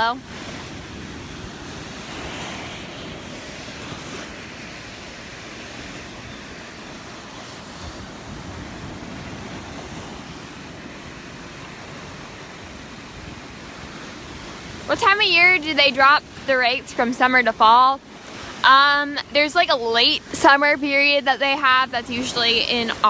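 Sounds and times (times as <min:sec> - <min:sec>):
waves washing onto beach: 0:00.0 - 0:23.0.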